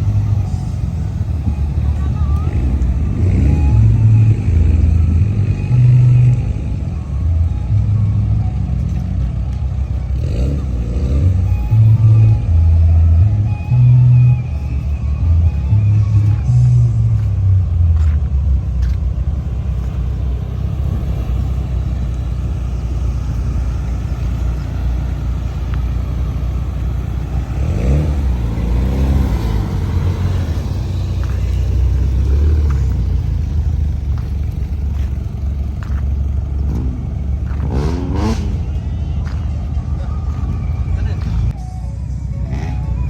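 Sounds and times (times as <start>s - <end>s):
car engines rumbling: 0.0s - 43.0s.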